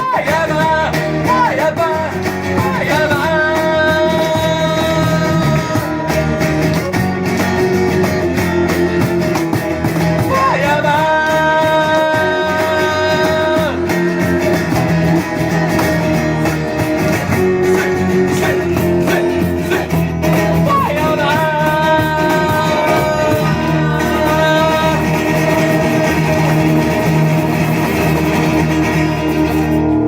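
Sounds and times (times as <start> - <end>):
blues-rock band playing: 0.0 - 30.0.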